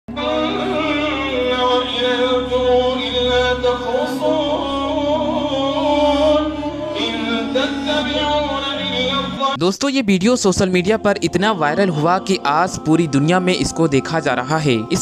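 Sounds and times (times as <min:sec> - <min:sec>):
man chanting: 0:00.1 - 0:15.0.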